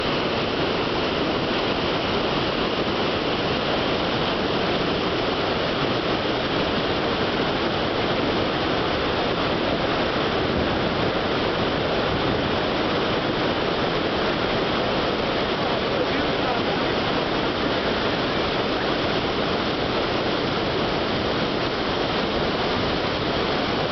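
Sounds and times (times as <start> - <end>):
waterfall roaring: 0.0 - 23.9.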